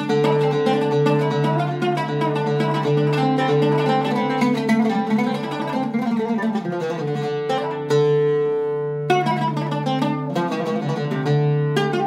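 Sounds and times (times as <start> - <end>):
oud plucked notes: 0.0 - 12.0
ringing oud note: 0.0 - 12.0.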